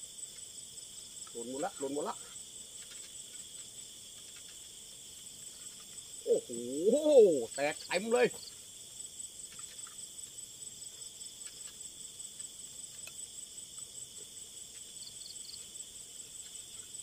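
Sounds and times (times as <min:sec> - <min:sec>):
faint ticks and rustles: 0:00.0 - 0:06.3, 0:07.4 - 0:17.0
crickets trilling: 0:00.0 - 0:17.0.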